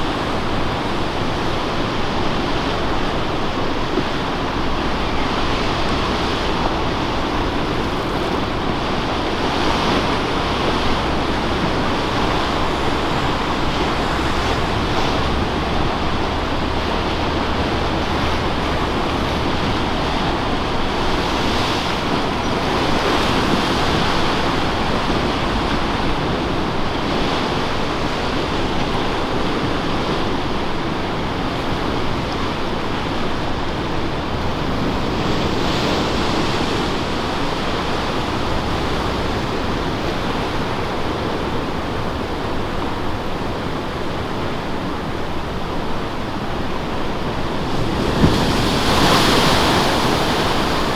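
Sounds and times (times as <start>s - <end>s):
ocean surf breaking: 0.0s - 50.9s
wind buffeting microphone: 0.0s - 50.9s.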